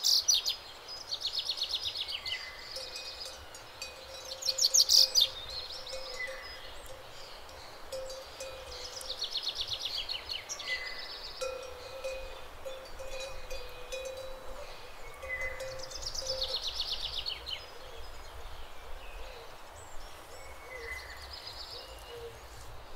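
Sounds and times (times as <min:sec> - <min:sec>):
small songbirds trilling: 0:00.0 - 0:22.7.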